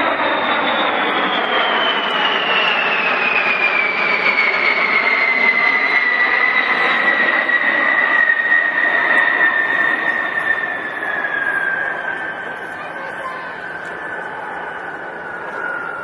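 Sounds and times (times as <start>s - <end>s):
high jet engine whine: 0.0s - 16.0s
jet bomber flying past: 0.0s - 16.0s.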